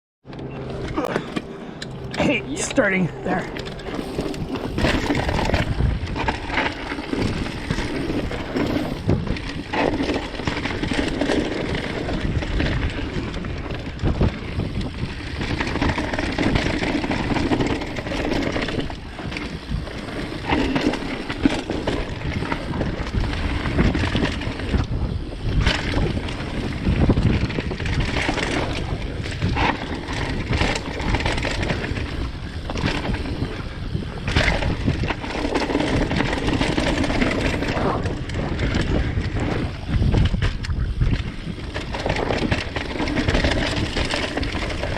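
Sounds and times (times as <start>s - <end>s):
bike clicks and rattles: 0.3s - 44.9s
bike tyre noise: 0.3s - 44.9s
wind noise: 0.3s - 44.9s.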